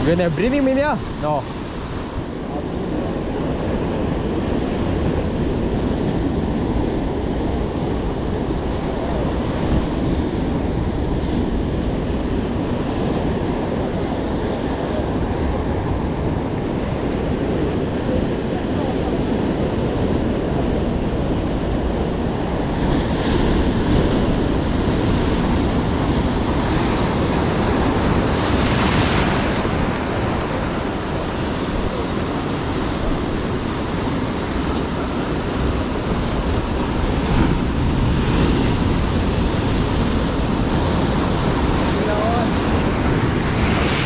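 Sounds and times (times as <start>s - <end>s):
surf breaking on shore: 0.0s - 44.0s
wind buffeting microphone: 0.0s - 44.0s.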